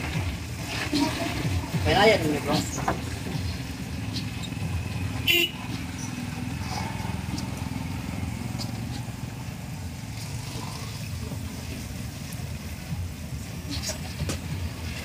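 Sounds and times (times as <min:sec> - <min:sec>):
motor engine rumbling: 0:00.0 - 0:15.0.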